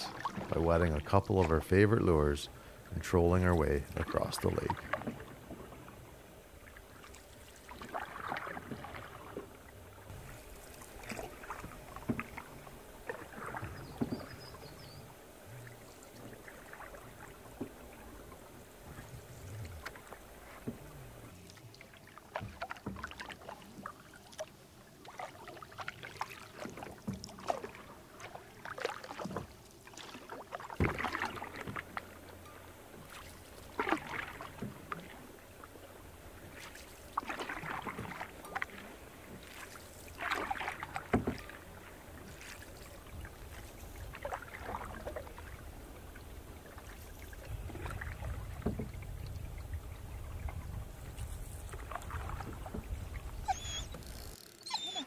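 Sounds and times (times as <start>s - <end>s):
canoe paddle splashing water: 0.0s - 55.0s.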